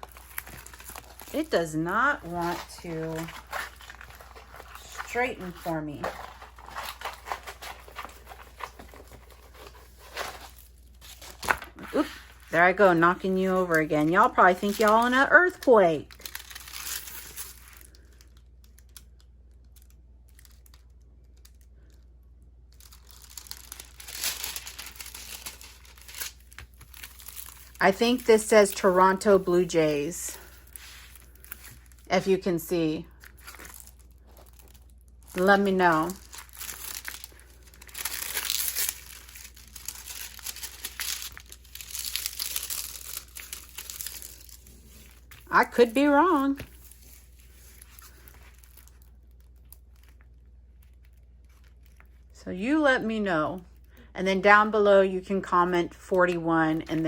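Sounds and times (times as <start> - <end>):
plastic packaging crinkling: 0.0 - 52.3.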